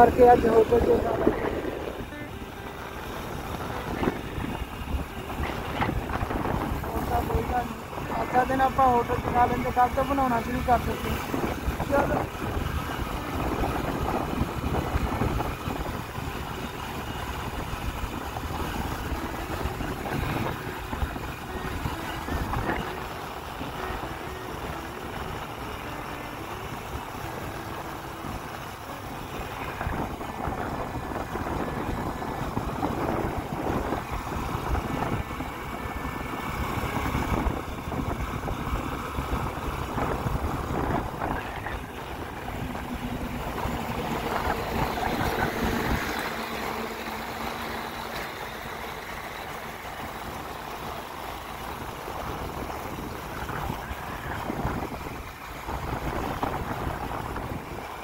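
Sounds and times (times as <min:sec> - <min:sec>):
road and wind noise: 0:00.0 - 0:58.0
vehicle engine running: 0:00.0 - 0:58.0.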